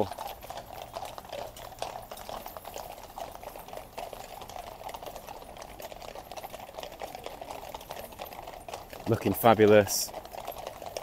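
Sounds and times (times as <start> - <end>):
horse hooves clopping on road: 0.0 - 11.0.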